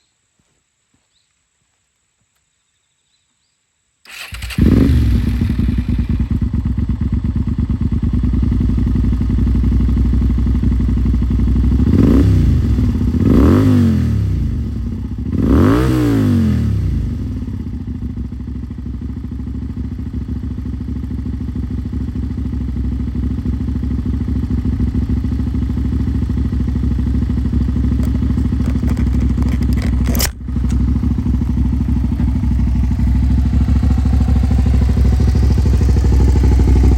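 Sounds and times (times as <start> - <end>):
motorcycle engine idling: 4.1 - 15.9, 16.6 - 36.9.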